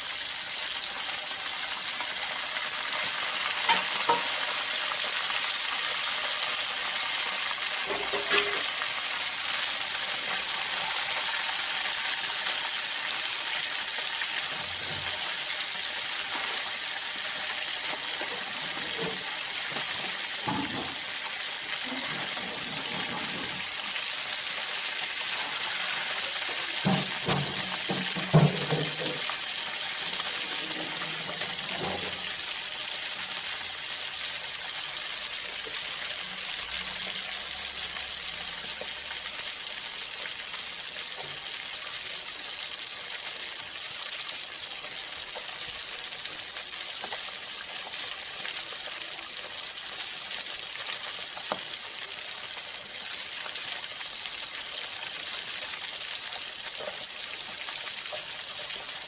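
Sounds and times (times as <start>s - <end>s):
fish sizzling in hot oil: 0.0s - 59.0s.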